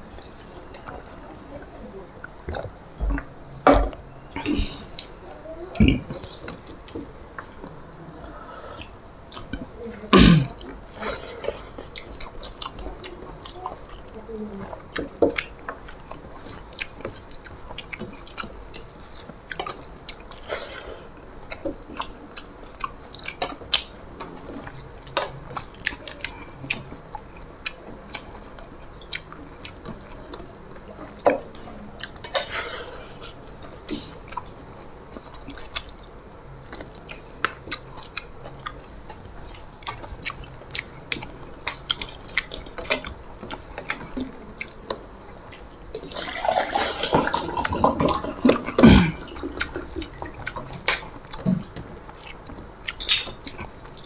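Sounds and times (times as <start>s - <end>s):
chewing with clicks and smacks: 0.2s - 54.0s.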